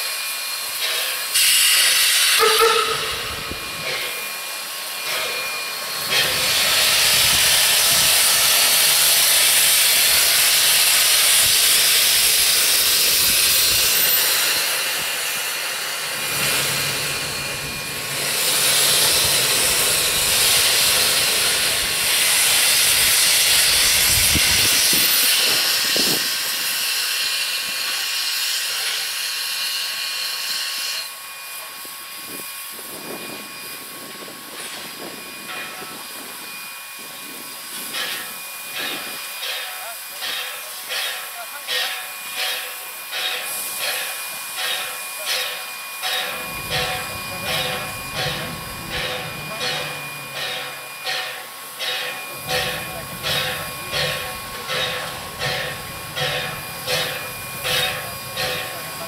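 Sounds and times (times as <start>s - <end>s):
steam locomotive hissing steam: 0.0s - 59.0s.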